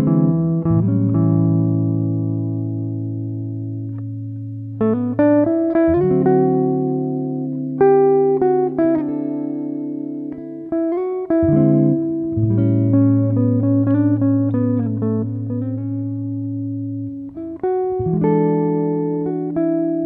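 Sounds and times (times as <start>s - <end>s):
low bass notes: 0.0s - 10.6s, 11.3s - 20.0s
plucked guitar notes: 0.0s - 20.0s.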